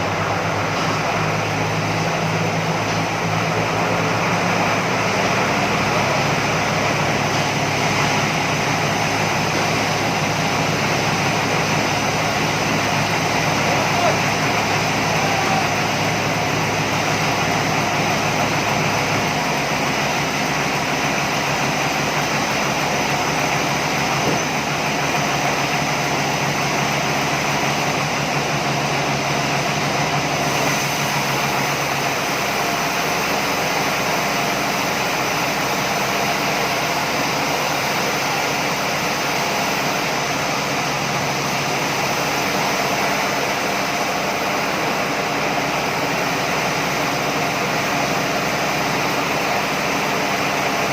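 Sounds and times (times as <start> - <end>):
sawmill machinery running: 0.0 - 50.9.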